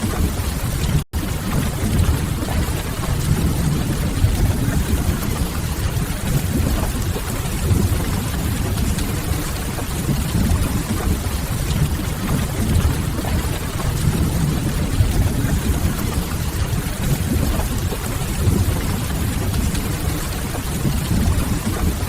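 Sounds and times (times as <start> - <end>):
rain rushing: 0.0 - 22.0.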